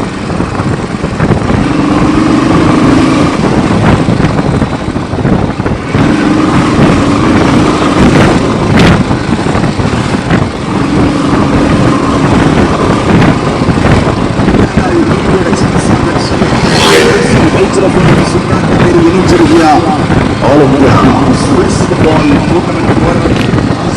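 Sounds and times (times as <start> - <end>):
motorcycle engine hum: 0.0 - 23.9
wind noise on microphone: 0.0 - 23.9.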